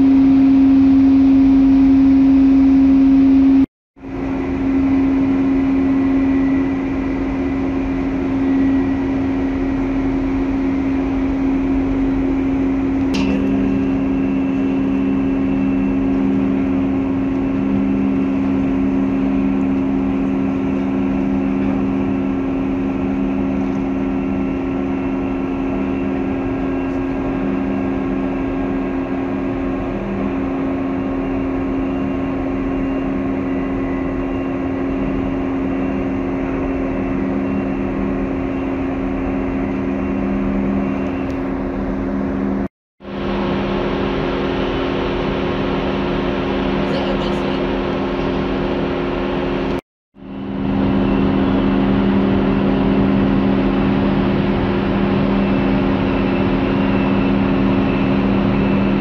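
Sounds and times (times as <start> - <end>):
ship machinery humming: 0.0 - 59.0.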